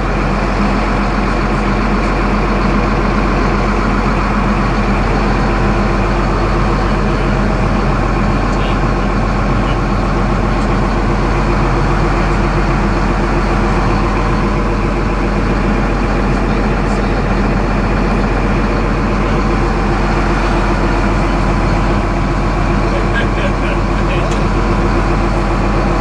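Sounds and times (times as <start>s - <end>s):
excavator diesel engine from cab: 0.0s - 26.0s.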